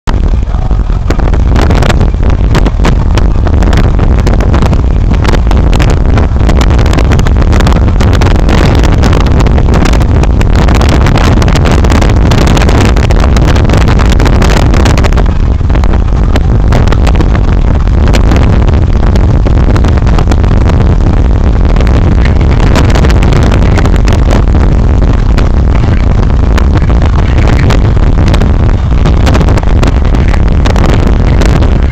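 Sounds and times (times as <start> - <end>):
car interior road rumble: 0.0 - 31.9.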